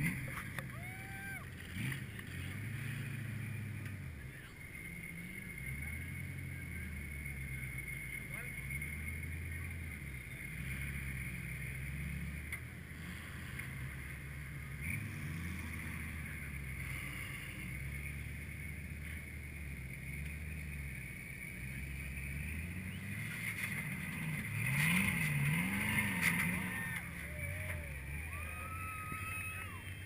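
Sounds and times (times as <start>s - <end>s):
truck engine labouring and revving: 0.0s - 30.0s.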